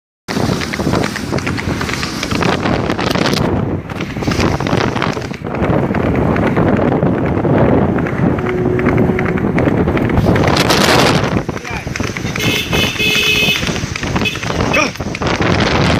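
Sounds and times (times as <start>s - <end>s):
hoofbeats on road: 0.3s - 15.9s
wind buffeting microphone: 0.3s - 15.9s.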